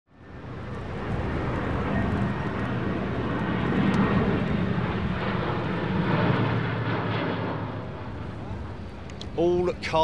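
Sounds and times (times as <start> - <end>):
jet engines running: 0.1 - 10.0.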